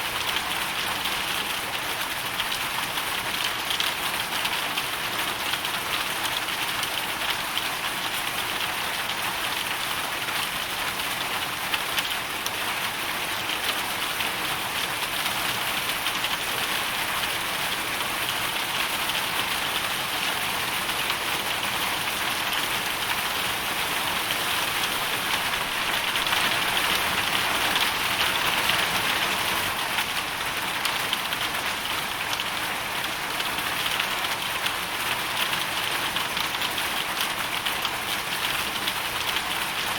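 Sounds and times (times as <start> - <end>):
hail and rain pattering: 0.0 - 39.9.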